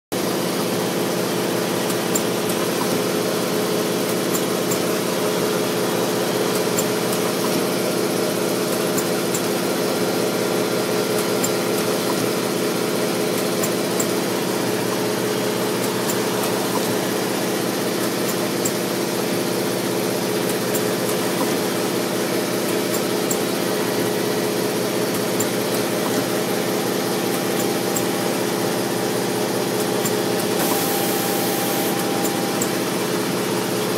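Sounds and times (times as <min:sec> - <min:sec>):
printing machine humming: 0:00.1 - 0:33.9.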